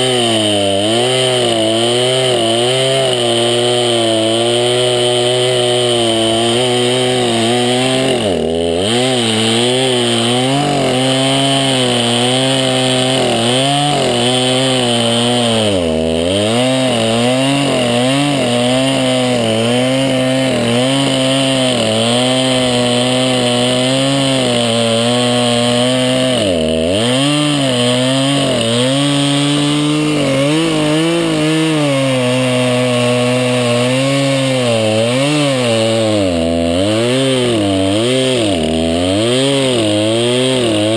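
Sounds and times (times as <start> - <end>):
chainsaw at high revs: 0.0 - 40.9.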